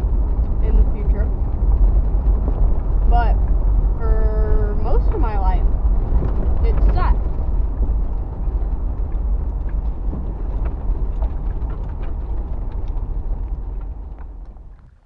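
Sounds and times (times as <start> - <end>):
light ticks and rattles: 0.0 - 15.0
vehicle engine and road rumble: 0.0 - 15.0.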